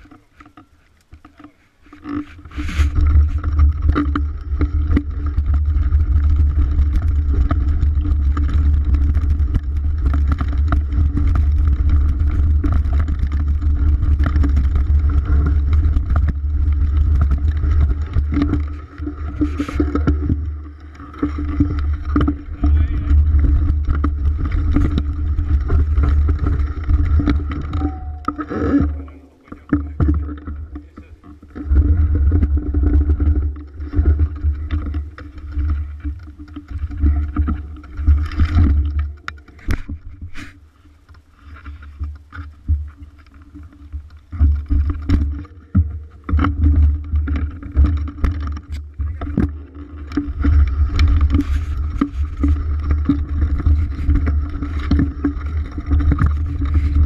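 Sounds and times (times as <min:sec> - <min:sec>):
bike rattling over bumps: 0:00.0 - 0:57.0
wind rumble on microphone: 0:02.2 - 0:57.0.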